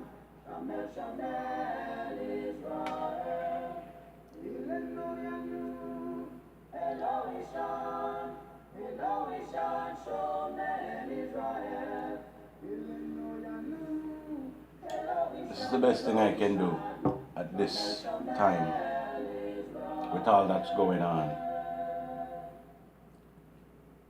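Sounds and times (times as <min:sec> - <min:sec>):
person singing unaccompanied: 0:00.0 - 0:22.7.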